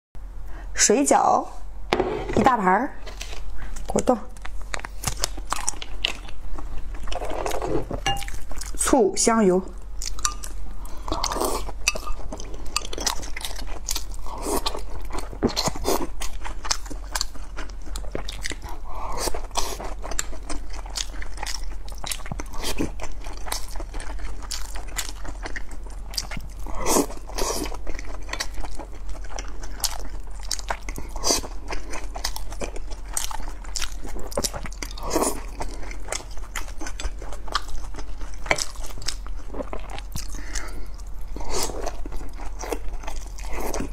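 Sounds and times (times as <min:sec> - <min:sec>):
chewing and biting dumplings: 0:03.4 - 0:08.8, 0:09.8 - 0:43.9.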